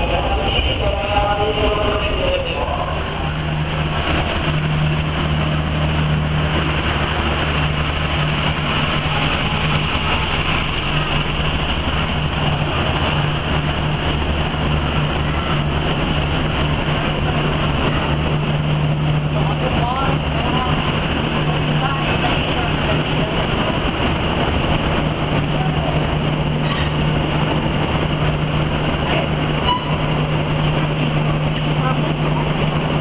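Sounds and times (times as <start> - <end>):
diesel train engine hum: 0.0 - 33.0
train coaches rumbling by: 0.0 - 33.0.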